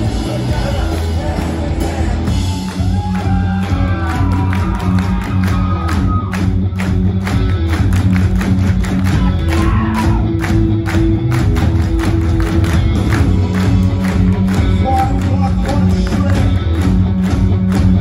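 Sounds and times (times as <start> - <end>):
bass guitar: 0.0 - 18.0
drum beat: 0.0 - 18.0
electric guitars: 0.0 - 18.0.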